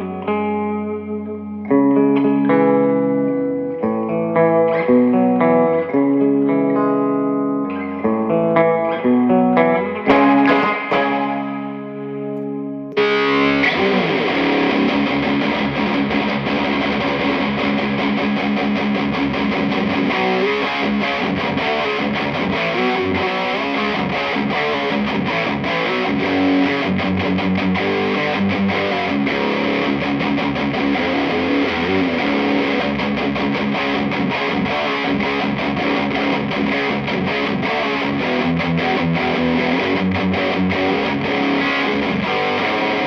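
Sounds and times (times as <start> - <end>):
distorted electric guitar: 0.0 - 43.0.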